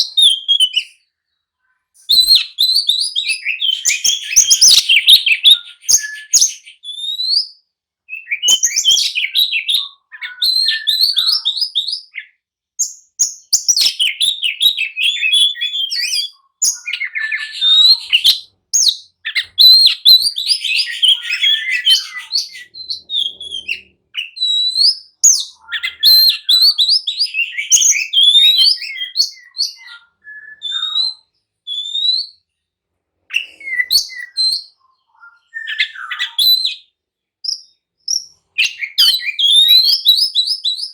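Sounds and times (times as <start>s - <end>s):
bird singing whistles and chirps: 0.0s - 1.1s, 2.0s - 32.6s, 33.3s - 40.9s.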